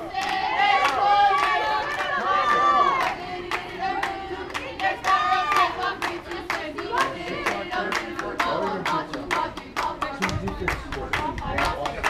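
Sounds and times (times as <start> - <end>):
young voices chanting in unison: 0.0 - 10.4
quick rhythmic clapping: 0.0 - 12.0.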